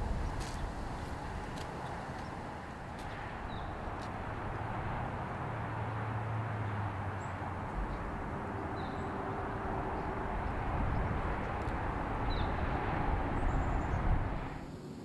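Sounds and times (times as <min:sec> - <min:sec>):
distant engine rumble: 0:00.0 - 0:14.7.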